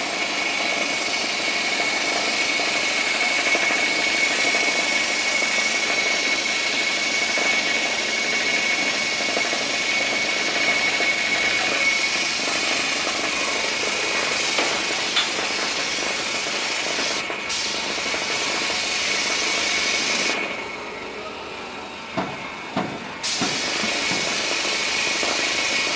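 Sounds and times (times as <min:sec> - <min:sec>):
spraying machine hissing: 0:00.0 - 0:20.7, 0:23.2 - 0:25.9.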